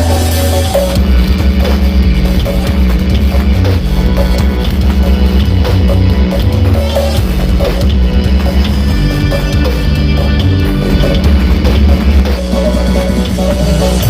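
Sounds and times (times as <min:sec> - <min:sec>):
loud dance music with booming bass: 0:00.0 - 0:14.0.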